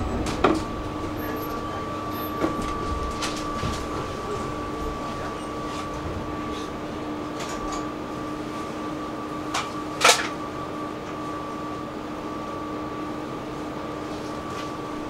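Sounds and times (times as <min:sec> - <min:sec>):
hum of fans and electrical equipment: 0:00.0 - 0:15.0.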